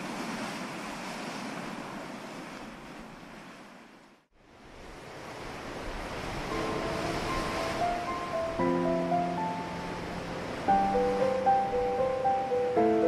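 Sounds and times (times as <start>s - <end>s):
ocean waves washing: 0.0s - 13.0s.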